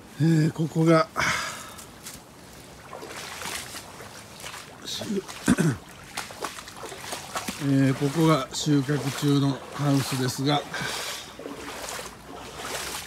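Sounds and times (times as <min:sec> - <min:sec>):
footsteps squelching through mud: 0:01.6 - 0:13.0.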